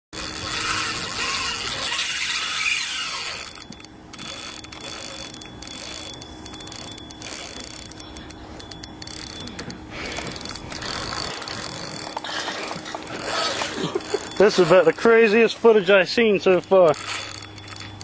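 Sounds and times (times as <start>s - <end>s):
fishing reel drag clicking: 0.2s - 15.5s, 16.2s - 18.0s.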